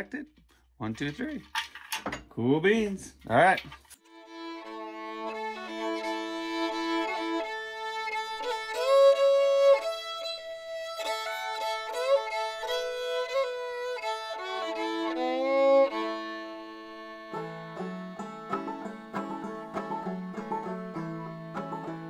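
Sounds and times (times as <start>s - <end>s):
fiddle playing held notes: 4.0s - 22.0s.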